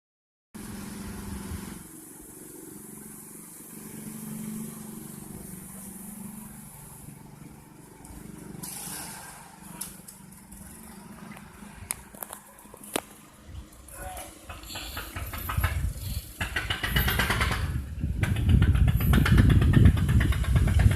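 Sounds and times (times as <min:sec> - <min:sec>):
engine running with low hum: 0:00.6 - 0:20.9.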